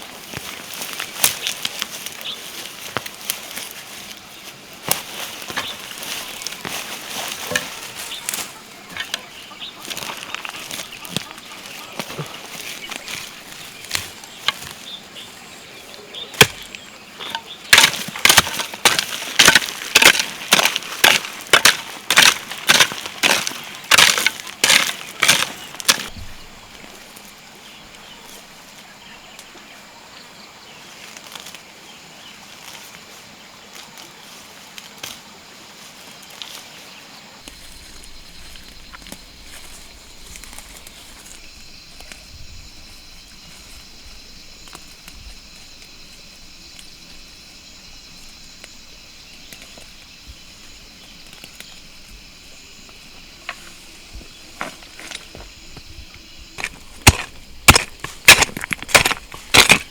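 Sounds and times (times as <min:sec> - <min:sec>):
faint outdoor background: 0:00.0 - 0:59.9.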